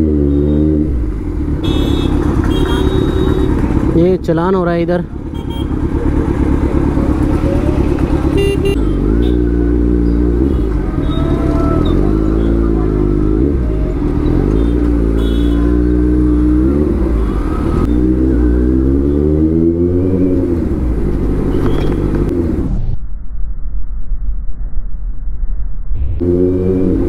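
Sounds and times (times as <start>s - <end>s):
motorcycle engine revving: 0.0s - 4.3s, 5.0s - 22.8s, 26.2s - 27.0s.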